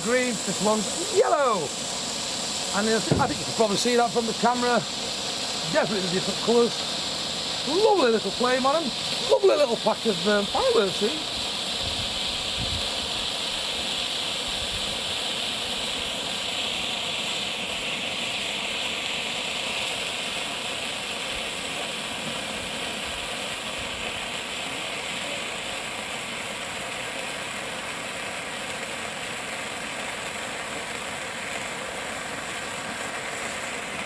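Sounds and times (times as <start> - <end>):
fireworks fizzing hiss: 0.0 - 34.0.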